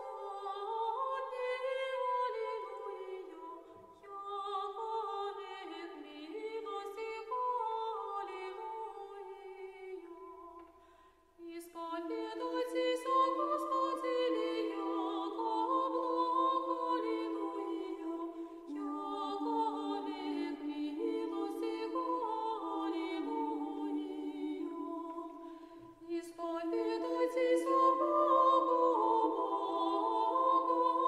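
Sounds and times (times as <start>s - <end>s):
unaccompanied choral chant: 0.0s - 10.7s, 11.4s - 31.0s.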